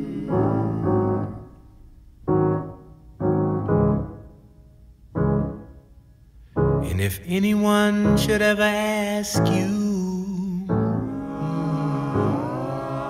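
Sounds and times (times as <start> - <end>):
blues piano chords: 0.0 - 13.0.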